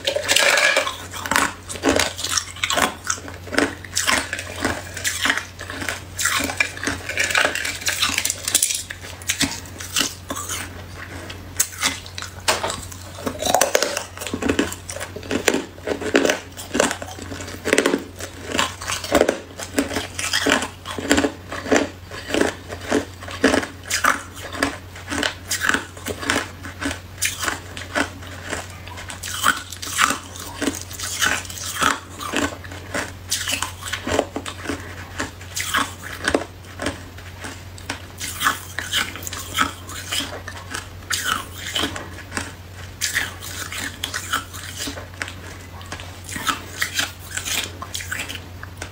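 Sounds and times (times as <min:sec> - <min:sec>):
faint low hum: 0:00.0 - 0:48.9
ice being chewed: 0:00.0 - 0:48.9.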